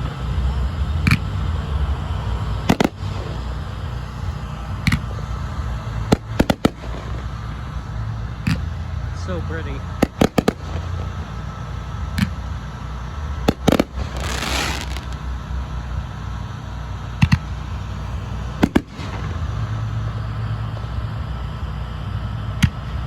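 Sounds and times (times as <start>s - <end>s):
fireworks booming: 0.0s - 23.0s
fireworks hissing crackle: 0.0s - 23.0s.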